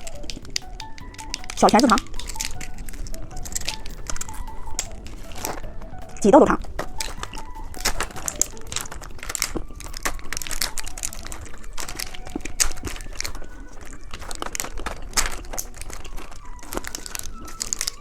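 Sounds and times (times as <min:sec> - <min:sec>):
candy wrappers crinkling: 0:00.0 - 0:18.0
crunching: 0:00.0 - 0:18.0.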